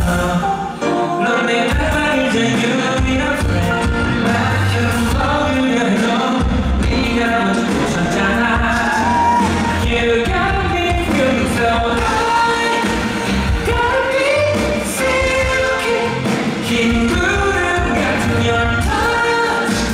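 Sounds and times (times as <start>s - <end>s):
backing music: 0.0s - 19.9s
man singing pop song: 0.0s - 19.9s.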